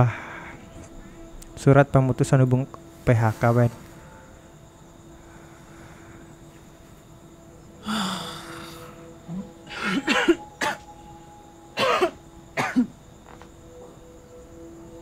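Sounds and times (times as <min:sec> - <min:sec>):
faint held music tones: 0:00.0 - 0:15.0.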